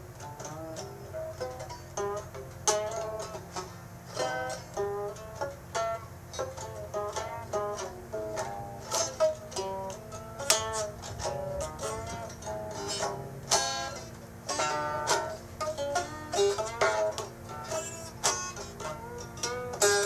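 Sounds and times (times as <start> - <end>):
plucked string instrument: 0.0 - 20.0
steady low hum: 0.0 - 20.0.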